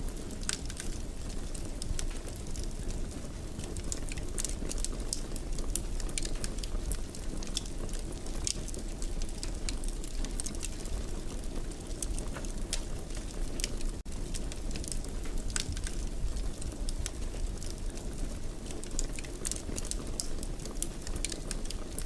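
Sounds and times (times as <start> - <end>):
wood fire crackling: 0.0 - 22.0
fire pops and snaps: 0.1 - 22.0.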